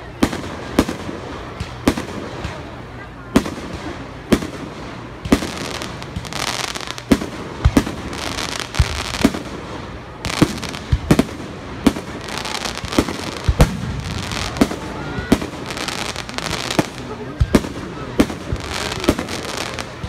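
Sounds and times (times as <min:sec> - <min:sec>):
crackling and hiss of stars: 0:00.0 - 0:20.0
firework shells booming: 0:00.2 - 0:20.0.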